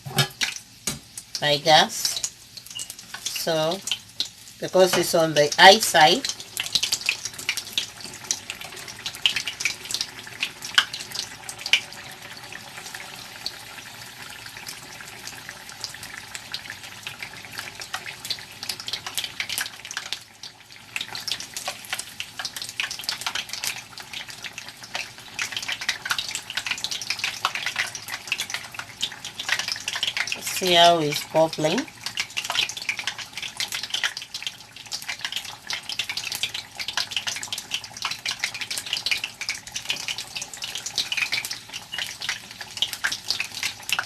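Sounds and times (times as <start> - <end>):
chicken deep-frying in oil: 0.0 - 44.0.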